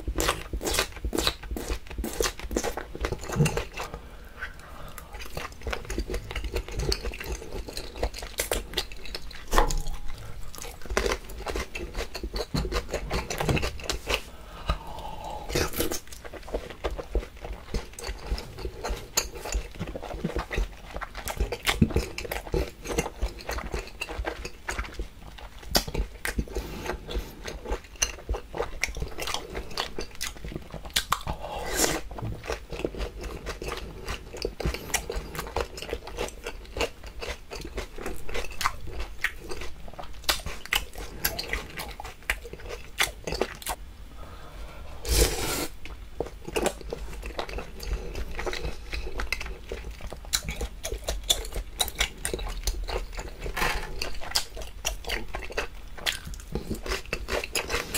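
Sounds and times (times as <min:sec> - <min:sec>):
mouth chewing food: 0:00.0 - 0:43.8, 0:45.0 - 0:57.9.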